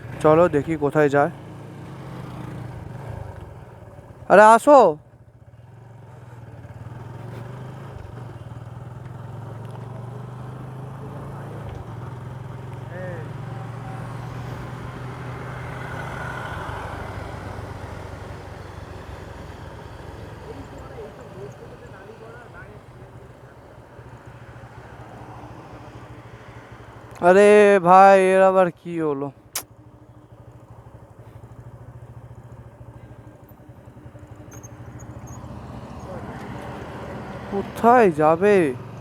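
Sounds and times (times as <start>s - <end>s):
motorcycle engine running: 0.0s - 39.0s
wind and road noise: 0.0s - 39.0s.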